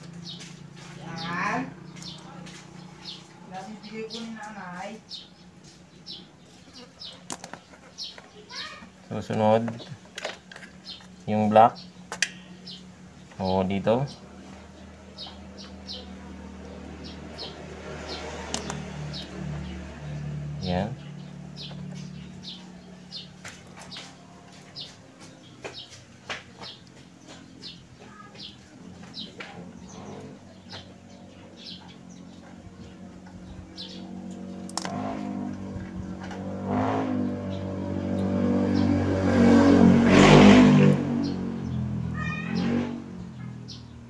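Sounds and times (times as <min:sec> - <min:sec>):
passing vehicle engine hum: 0:00.0 - 0:07.2, 0:10.4 - 0:44.0
small birds chirping: 0:00.0 - 0:44.0.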